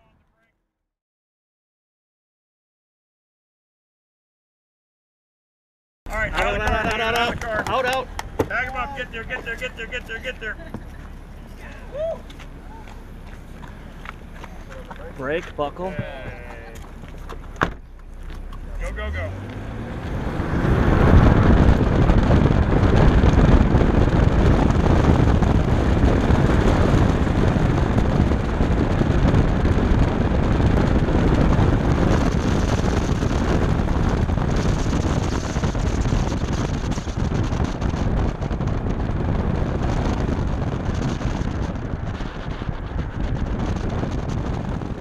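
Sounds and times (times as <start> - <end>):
car engine: 6.1 - 45.0
tyres running hard: 6.1 - 45.0
wind buffeting microphone: 6.1 - 45.0.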